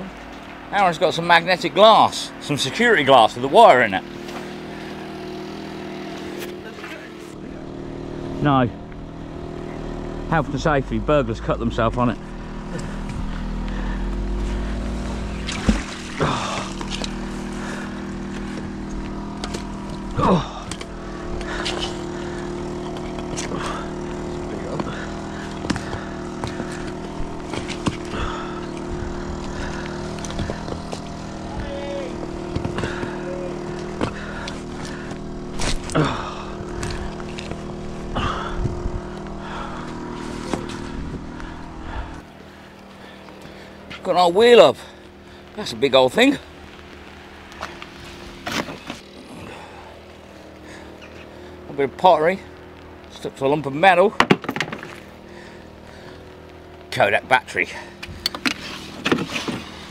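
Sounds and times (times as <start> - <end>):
engine humming: 0.0 - 59.9.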